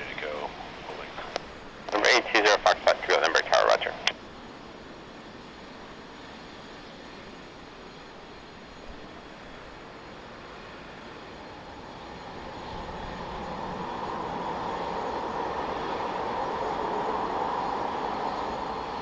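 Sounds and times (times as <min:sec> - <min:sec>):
jet airliner engines passing: 0:00.0 - 0:19.0.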